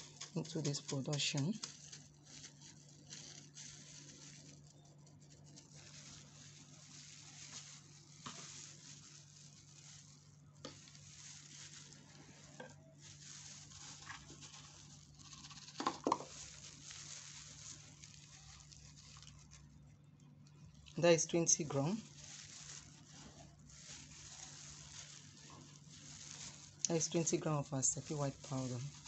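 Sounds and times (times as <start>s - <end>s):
low electrical hum: 0.0s - 29.0s
plastic glove and bag crackling: 0.0s - 29.0s.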